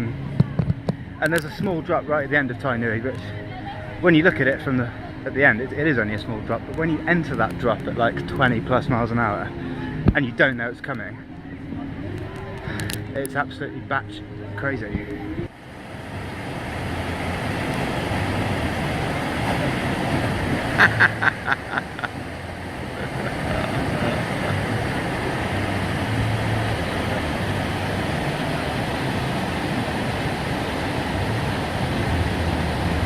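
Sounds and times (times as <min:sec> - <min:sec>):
steady rushing outdoor noise: 0:00.0 - 0:33.0.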